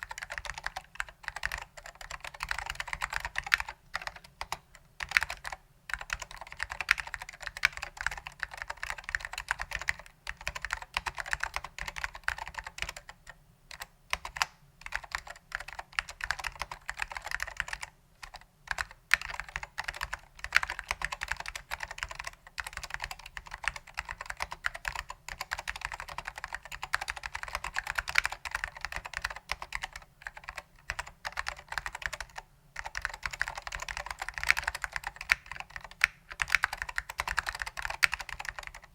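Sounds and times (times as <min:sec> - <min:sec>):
fast keyboard typing: 0:00.0 - 0:38.9.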